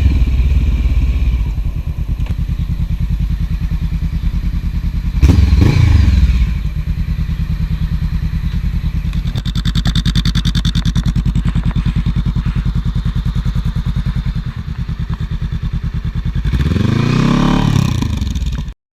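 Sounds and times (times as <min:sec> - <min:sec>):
motorcycle engine idling: 0:00.0 - 0:18.7
motorcycle engine revving: 0:00.0 - 0:18.8.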